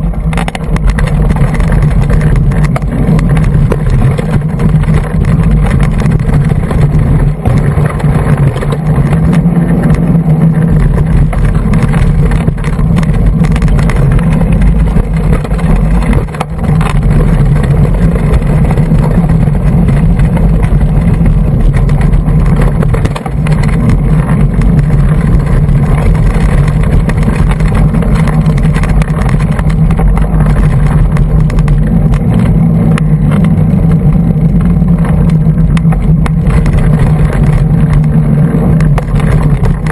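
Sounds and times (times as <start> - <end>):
bike rattles and knocks: 0.0 - 39.9
tyre and wind rumble: 0.0 - 39.9.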